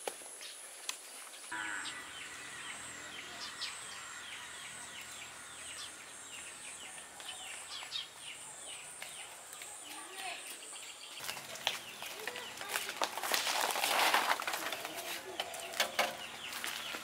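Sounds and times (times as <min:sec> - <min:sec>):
insects droning: 0:00.1 - 0:17.0
birds chirping: 0:01.3 - 0:17.0.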